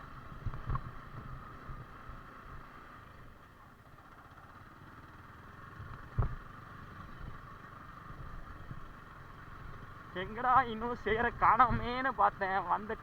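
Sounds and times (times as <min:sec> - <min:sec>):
motorcycle idling: 0:00.0 - 0:13.0.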